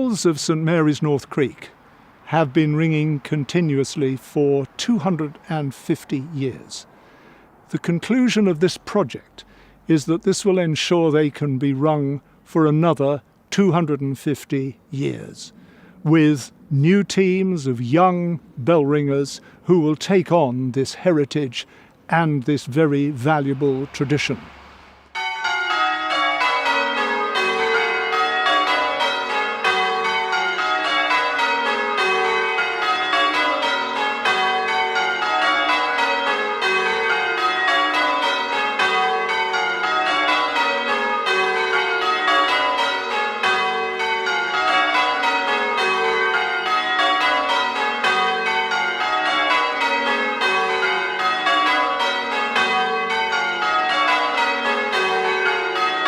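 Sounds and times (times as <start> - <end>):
church bells change ringing: 0.0 - 56.0.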